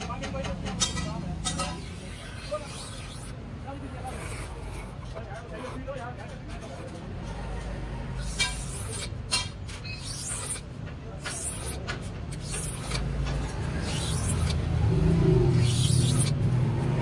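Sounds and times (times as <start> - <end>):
cutter scraping acrylic sheet: 0.8 - 17.0.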